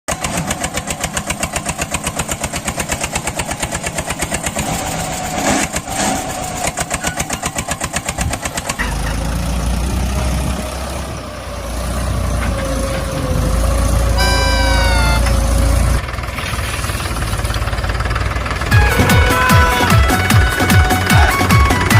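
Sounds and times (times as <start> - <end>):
tractor engine chugging: 0.1 - 21.9.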